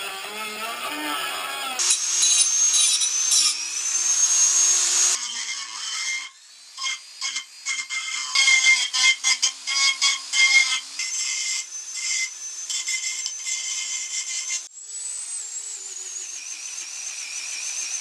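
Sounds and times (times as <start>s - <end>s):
rotary tool motor whine: 0.0s - 18.0s.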